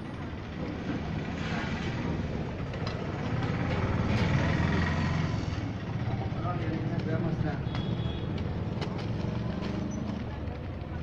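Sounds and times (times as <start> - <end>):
street traffic rumbling: 0.0 - 11.0.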